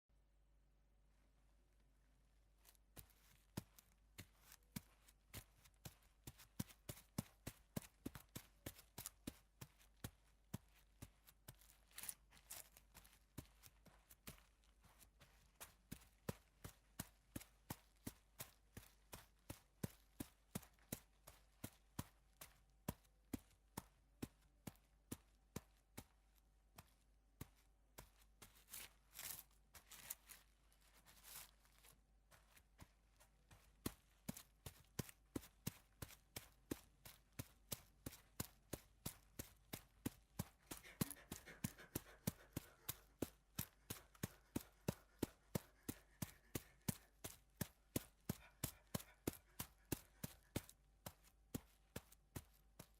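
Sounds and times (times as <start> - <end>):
footsteps on soft ground: 2.5 - 52.9.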